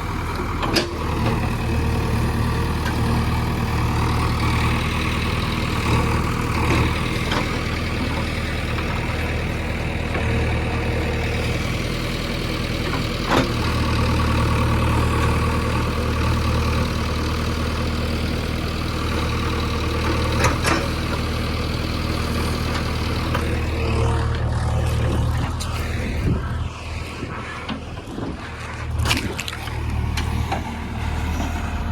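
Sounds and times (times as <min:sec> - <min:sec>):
bulldozer diesel engine running: 0:00.0 - 0:31.9.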